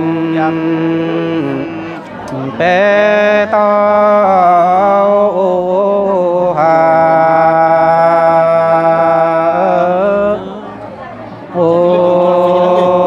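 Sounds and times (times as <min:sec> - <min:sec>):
man singing in chanting style: 0:00.0 - 0:10.8, 0:11.5 - 0:13.0.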